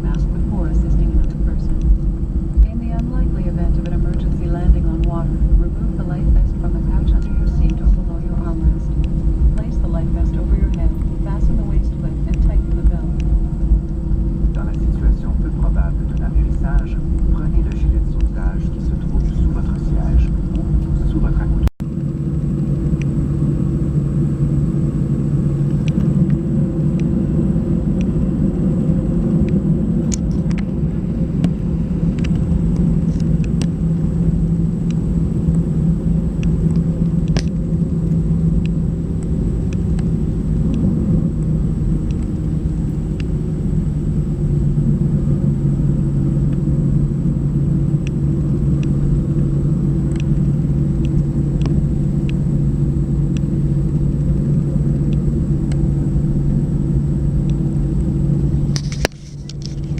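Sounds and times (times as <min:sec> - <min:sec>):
jet engine hum in cabin: 0:00.0 - 0:59.9.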